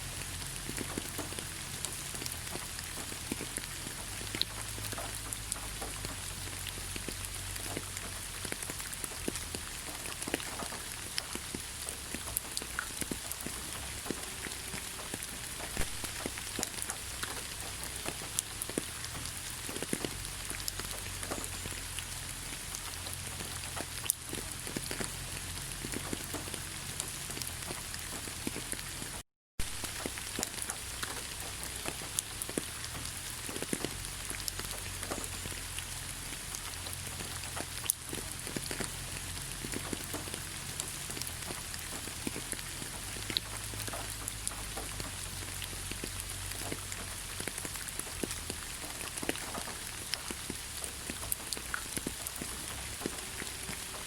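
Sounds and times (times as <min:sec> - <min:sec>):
raindrops ticking: 0:00.0 - 0:54.0
steady rain hiss: 0:00.0 - 0:54.0.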